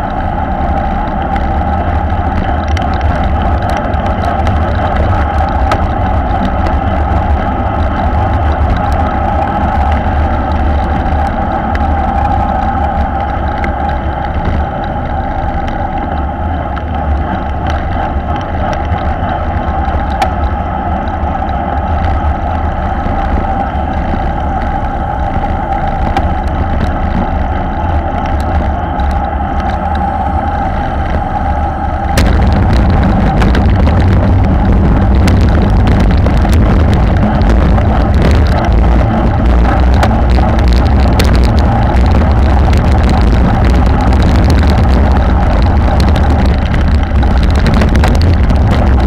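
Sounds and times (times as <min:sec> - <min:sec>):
tyres on asphalt: 0:00.0 - 0:49.0
wind rushing over microphone: 0:00.0 - 0:49.0.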